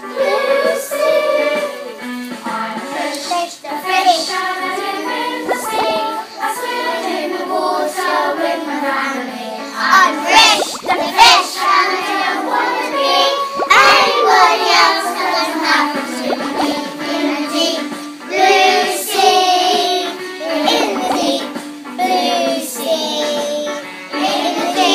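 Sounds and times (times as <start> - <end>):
young children singing: 0.0 - 24.9.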